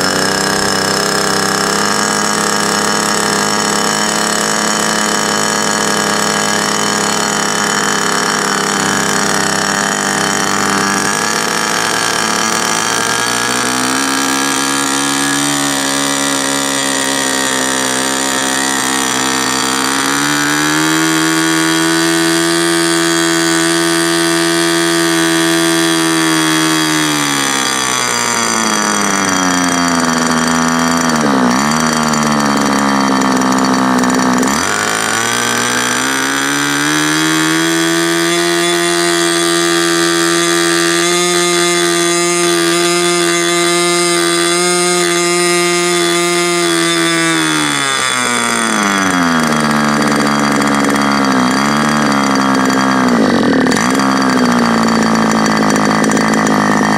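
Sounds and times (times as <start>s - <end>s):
model airplane engine running: 0.0s - 56.9s.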